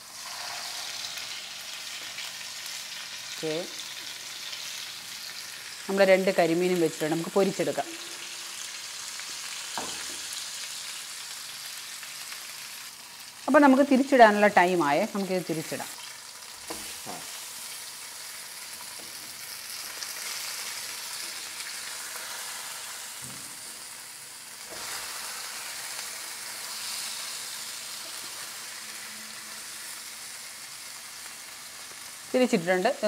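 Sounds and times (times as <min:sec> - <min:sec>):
fish sizzling in hot oil: 0:00.0 - 0:33.0.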